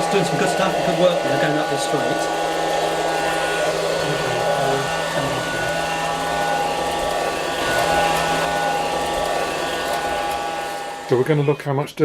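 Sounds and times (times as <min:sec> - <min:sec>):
robotic vacuum cleaner running: 0:00.0 - 0:11.7.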